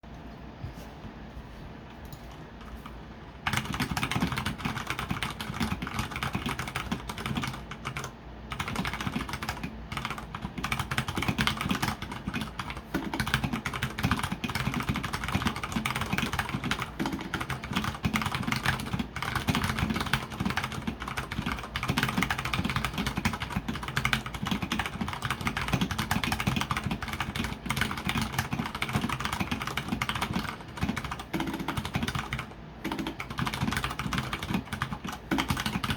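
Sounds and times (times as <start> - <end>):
mechanical keyboard typing: 2.1 - 35.9.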